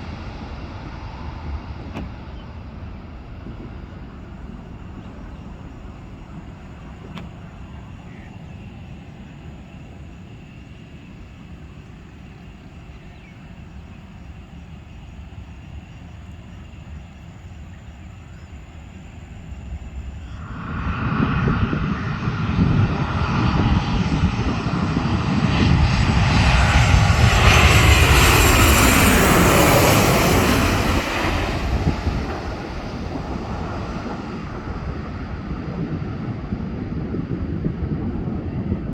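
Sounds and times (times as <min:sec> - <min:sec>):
falling jet whine: 0:00.0 - 0:38.1
jet airliner flying past: 0:00.0 - 0:38.9.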